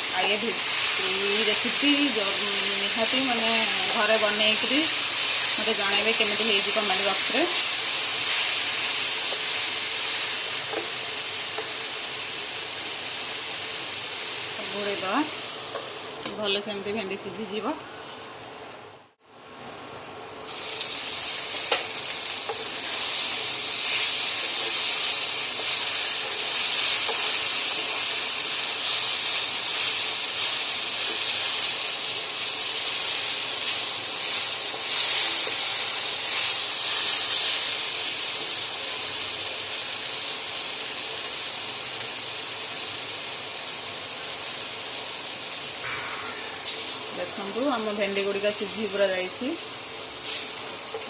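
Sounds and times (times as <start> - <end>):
vegetables sizzling in a pan: 0.0 - 51.0.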